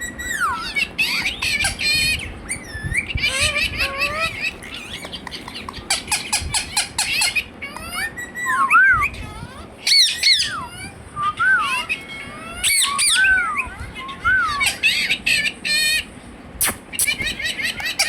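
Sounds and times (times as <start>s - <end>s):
parakeet chirping and whistling: 0.0s - 16.0s, 16.6s - 18.0s
parakeet squawking harshly: 0.1s - 8.6s, 9.2s - 11.0s, 11.6s - 18.0s.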